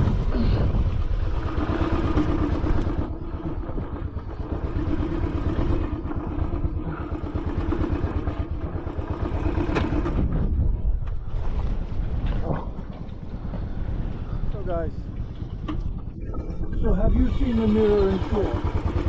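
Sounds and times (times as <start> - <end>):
motorcycle engine running: 0.0 - 12.4, 15.3 - 19.0.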